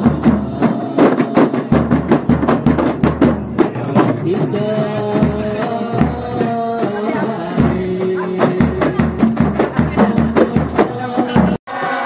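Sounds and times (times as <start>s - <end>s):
men singing held notes: 0.0s - 2.8s, 3.5s - 12.0s
bass drum deep beats: 0.0s - 11.6s
frame drums beating fast rhythm: 0.0s - 12.0s.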